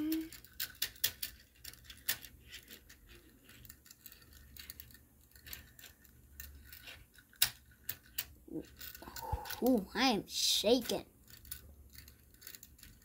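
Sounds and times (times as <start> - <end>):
toy train wheels clicking and rattling: 0.0 - 13.0.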